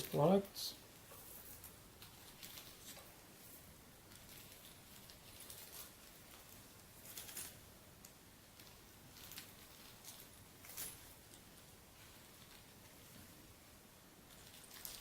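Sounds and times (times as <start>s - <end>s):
small items rustling and clicking: 1.1s - 13.4s, 14.3s - 15.0s.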